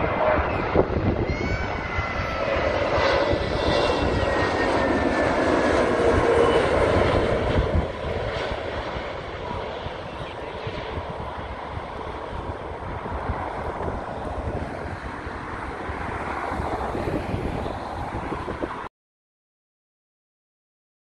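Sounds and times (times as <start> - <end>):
jet airliner passing overhead: 0.0 - 18.9.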